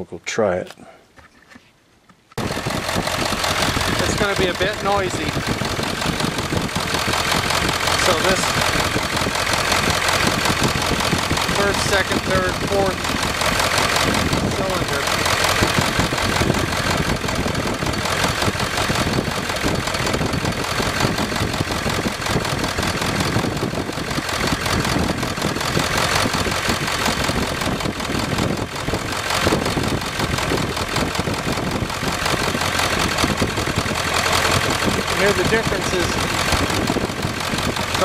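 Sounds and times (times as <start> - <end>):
diesel engine idling with knock: 2.4 - 38.0.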